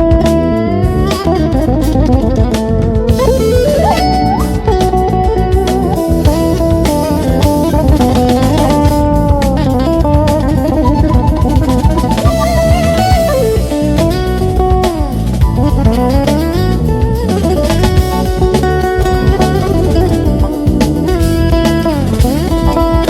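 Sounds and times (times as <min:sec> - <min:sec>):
bass guitar: 0:00.0 - 0:23.0
drum kit: 0:00.0 - 0:23.0
lead guitar sliding notes: 0:00.0 - 0:23.0.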